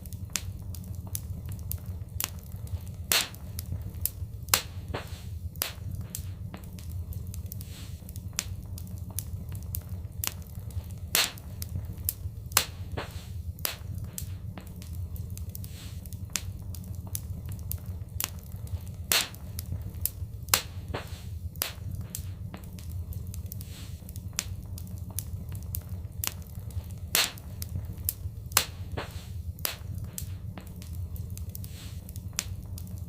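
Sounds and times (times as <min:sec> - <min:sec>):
low fire rumble: 0:00.0 - 0:33.0
wood fire crackling: 0:00.0 - 0:33.0.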